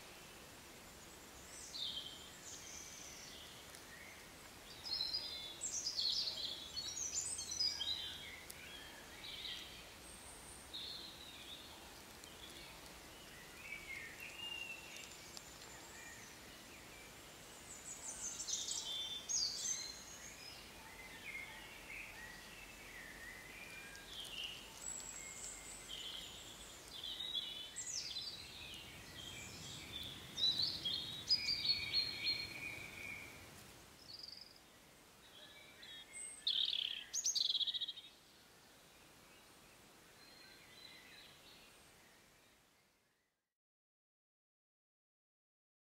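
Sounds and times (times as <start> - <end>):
faint background hiss: 0.0 - 43.4
songbirds singing: 0.0 - 43.4.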